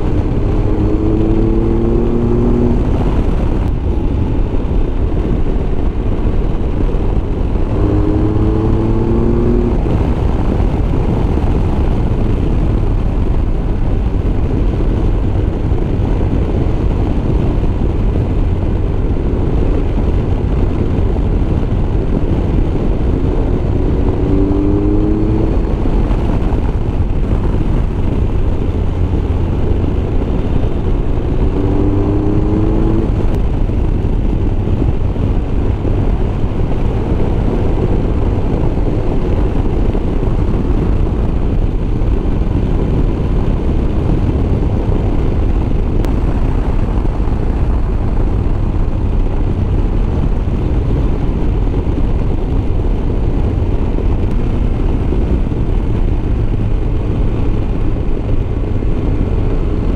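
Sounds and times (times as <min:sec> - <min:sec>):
motorcycle engine: 0:00.0 - 0:59.9
wind rush on microphone: 0:00.0 - 0:59.9.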